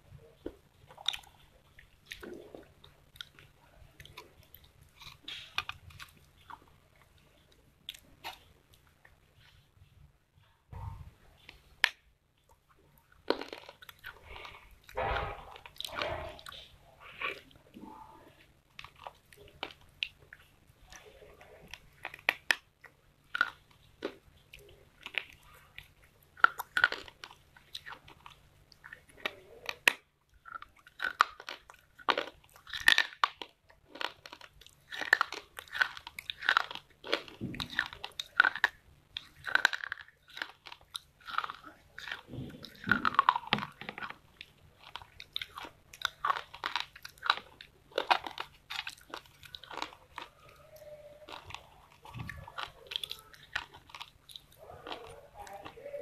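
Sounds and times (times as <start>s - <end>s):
person biting and chewing clay: 0.4s - 8.8s, 10.8s - 17.8s, 18.7s - 56.0s.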